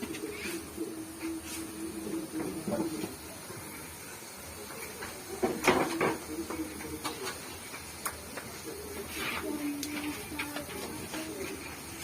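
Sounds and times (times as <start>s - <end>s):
batter sizzling in hot oil: 0.0s - 12.0s
faint voices: 0.0s - 12.0s.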